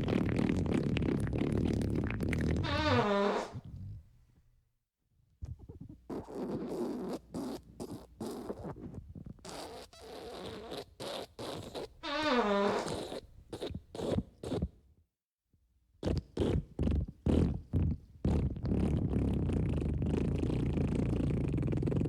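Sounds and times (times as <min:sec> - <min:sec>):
fart sounds: 0:00.0 - 0:04.0, 0:05.5 - 0:14.7, 0:16.0 - 0:22.0.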